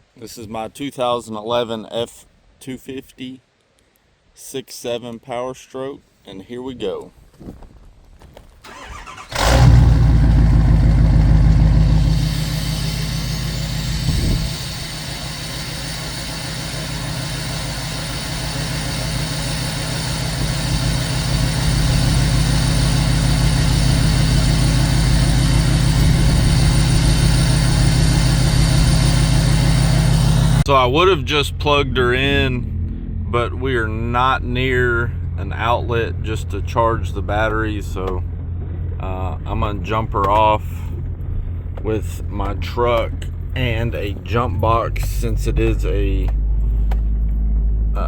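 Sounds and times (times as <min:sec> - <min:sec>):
diesel engine starting and idling: 0:08.6 - 0:48.0
high whine: 0:09.4 - 0:48.0.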